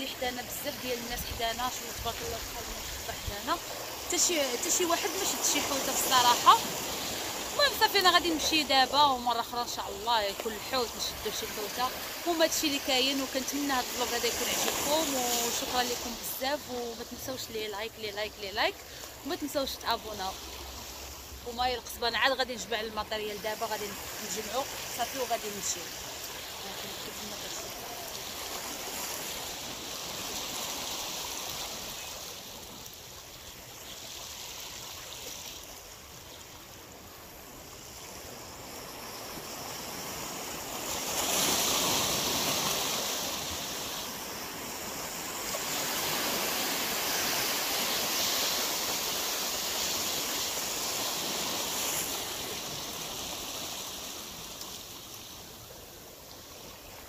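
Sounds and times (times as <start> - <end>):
sea waves washing against rocks: 0.0 - 33.2, 36.8 - 56.9.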